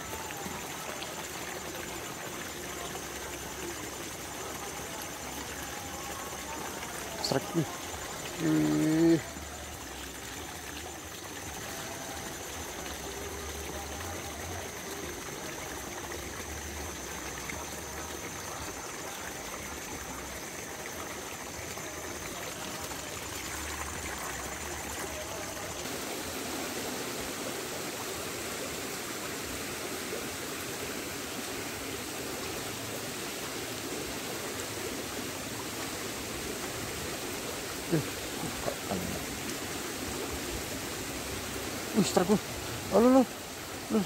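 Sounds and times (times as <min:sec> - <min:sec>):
stream running over rocks: 0:00.0 - 0:44.0.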